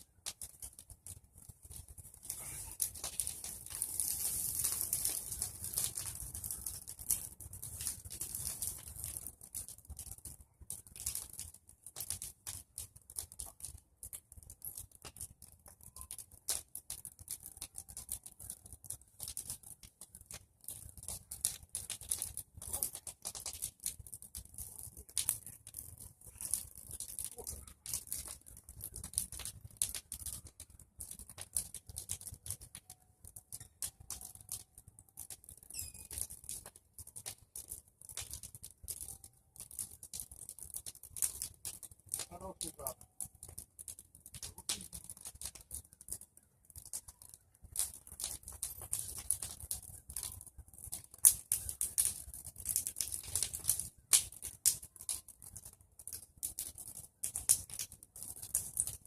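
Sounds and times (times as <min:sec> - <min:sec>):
bonfire crackling: 0:00.0 - 0:59.0.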